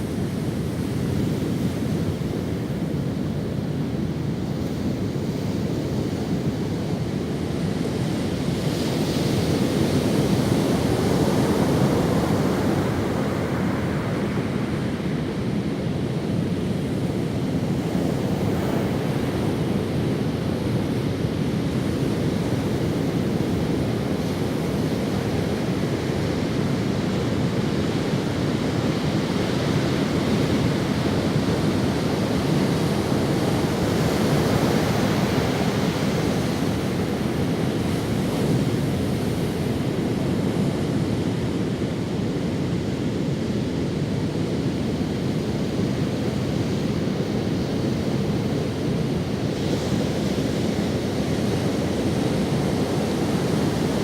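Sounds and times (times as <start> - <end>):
ocean waves on sandy beach: 0.0 - 54.0.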